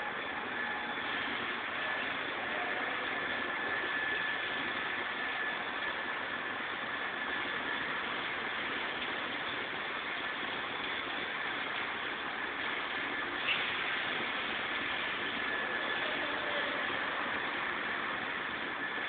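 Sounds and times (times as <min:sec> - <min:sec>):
thin steady whine: 0:00.0 - 0:19.0.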